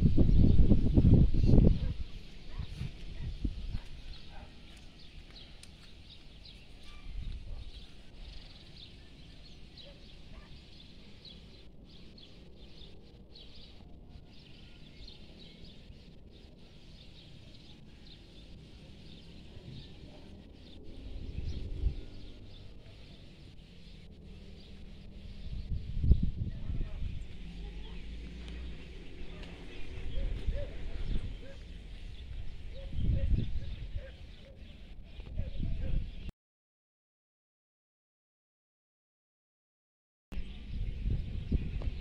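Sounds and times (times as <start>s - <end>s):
birds chirping: 0.1s - 36.3s, 40.4s - 42.0s.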